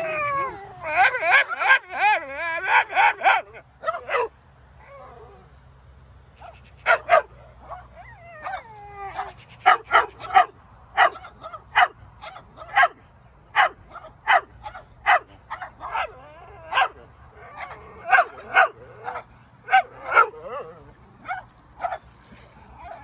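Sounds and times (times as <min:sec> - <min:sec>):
terrier barking in high yaps: 0:00.9 - 0:04.4, 0:06.4 - 0:17.0, 0:17.6 - 0:22.1.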